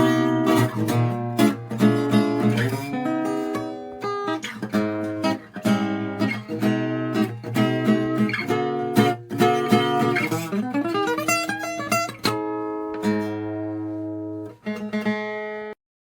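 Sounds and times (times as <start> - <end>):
acoustic guitar playing: 0.0 - 15.8.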